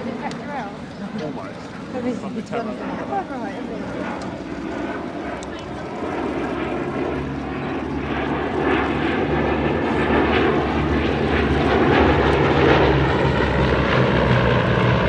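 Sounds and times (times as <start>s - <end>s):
aircraft radial engines in flight: 0.0s - 15.0s.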